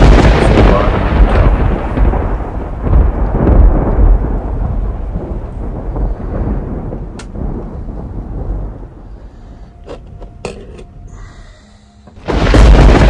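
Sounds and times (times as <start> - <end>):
rain on a roof: 0.0 - 10.0, 12.1 - 13.0
thunder rumbling: 0.0 - 13.0.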